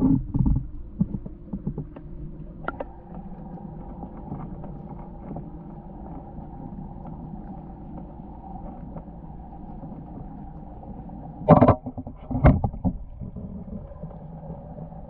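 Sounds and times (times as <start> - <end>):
constant hum: 0.0 - 15.0
muffled underwater rumble: 0.0 - 15.0
faint clicks: 0.3 - 14.9.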